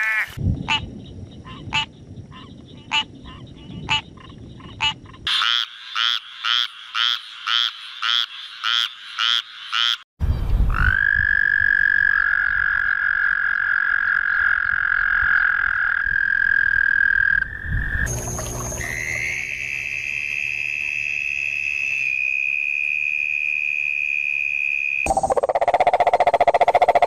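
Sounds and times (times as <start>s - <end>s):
tree frog croaking: 0.6s - 10.0s, 10.7s - 19.4s, 22.1s - 27.0s.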